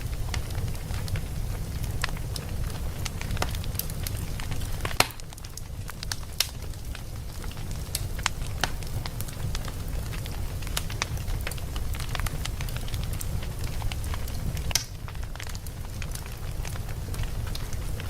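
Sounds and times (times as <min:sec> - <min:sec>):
fire crackling and popping: 0:00.0 - 0:18.0
fire low rumble: 0:00.0 - 0:18.0.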